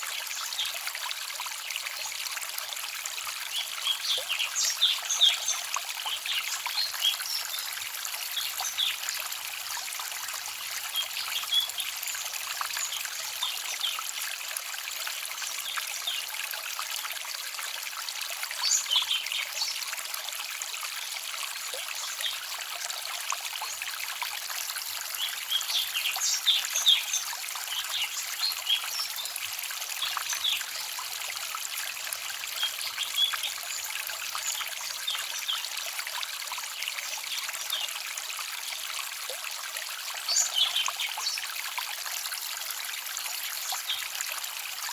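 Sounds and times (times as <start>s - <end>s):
stream babbling over stones: 0.0s - 44.9s.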